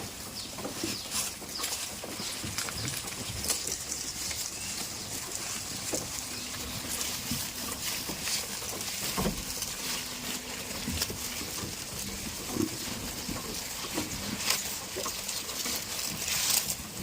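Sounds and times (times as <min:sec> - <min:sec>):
rustling: 0:00.0 - 0:17.0
goats making low sounds: 0:00.7 - 0:17.0.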